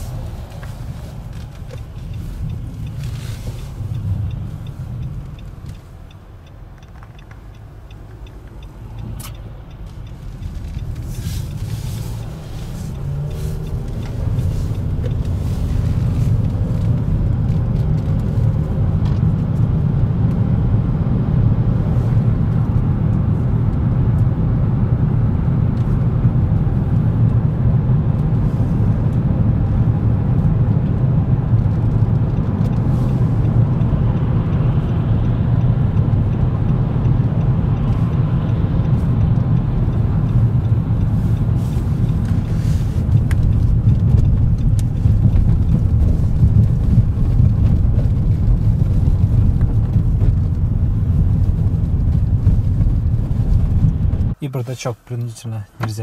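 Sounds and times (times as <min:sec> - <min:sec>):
car engine low rumble: 0:00.0 - 0:56.0.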